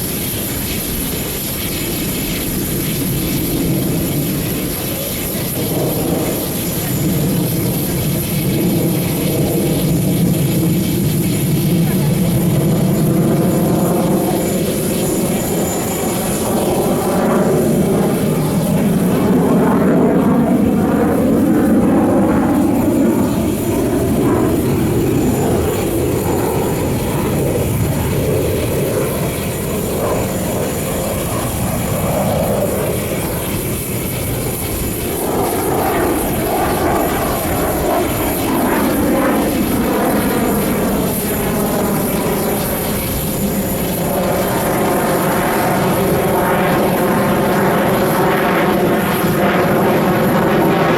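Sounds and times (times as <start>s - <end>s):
jet fighter engines roaring: 0.0s - 50.9s.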